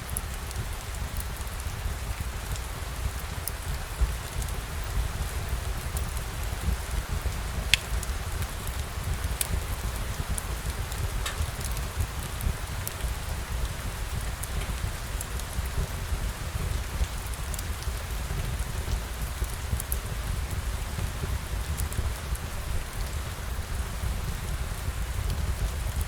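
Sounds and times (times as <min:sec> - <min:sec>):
rain falling: 0:00.0 - 0:26.0
raindrop ticks: 0:00.1 - 0:26.0.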